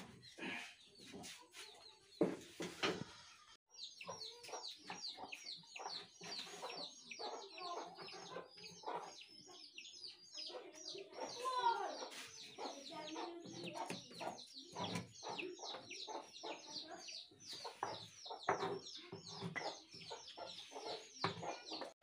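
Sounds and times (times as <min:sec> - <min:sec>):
birds chirping rapidly: 0:03.7 - 0:22.0.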